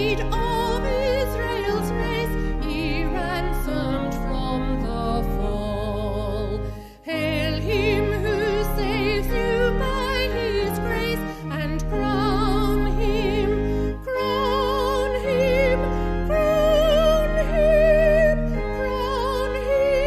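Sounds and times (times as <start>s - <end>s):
person singing a hymn: 0.0s - 20.0s
sustained accompaniment: 0.0s - 20.0s.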